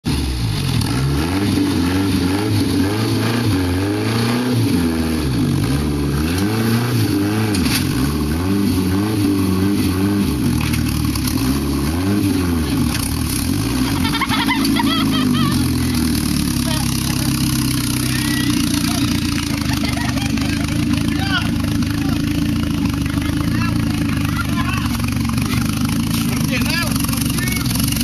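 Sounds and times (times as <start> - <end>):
engine revving under load: 0.1 - 28.0.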